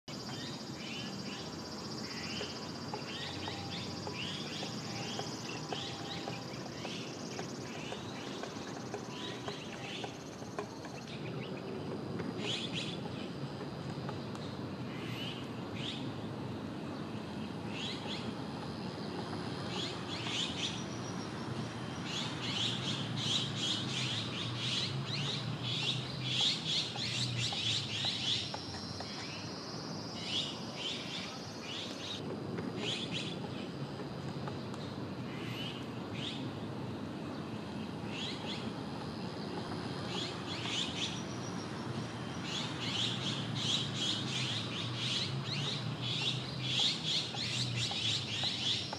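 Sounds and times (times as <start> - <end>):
small birds chirping: 0.1 - 48.9.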